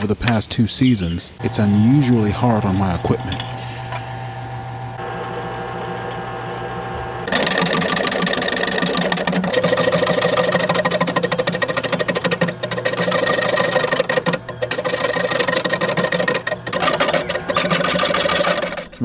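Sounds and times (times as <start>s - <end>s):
gouge scraping spinning wood: 1.4s - 19.0s
wood lathe motor hum: 1.4s - 19.0s.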